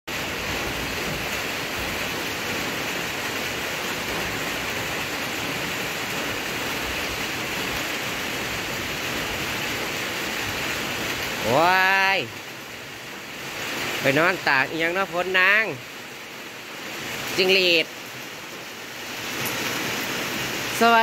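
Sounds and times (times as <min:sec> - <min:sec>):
steady rain: 0:00.1 - 0:21.0.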